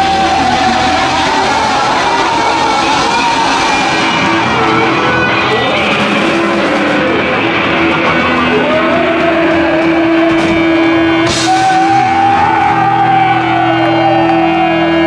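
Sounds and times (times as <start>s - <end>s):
person singing: 0.0s - 15.0s
punk rock band playing: 0.0s - 15.0s.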